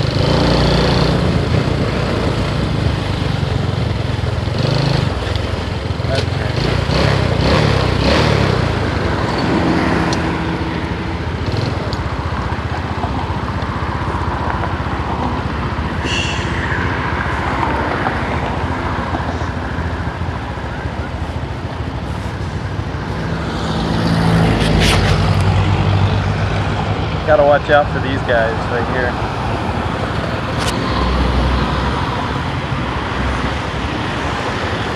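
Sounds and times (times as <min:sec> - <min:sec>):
motorcycle engine: 0:00.0 - 0:34.9
passing vehicles: 0:00.0 - 0:34.9
wind and road noise: 0:00.0 - 0:34.9.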